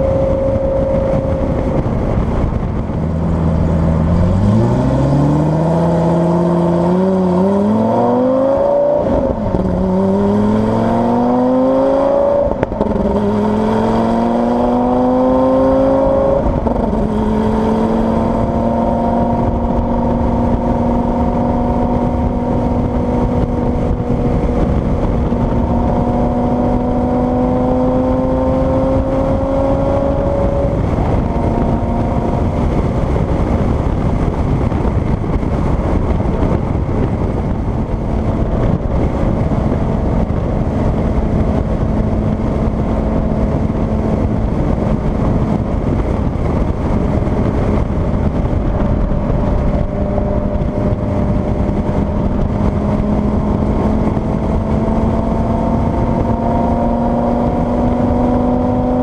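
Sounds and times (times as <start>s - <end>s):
sports car engine accelerating: 0.0s - 59.0s.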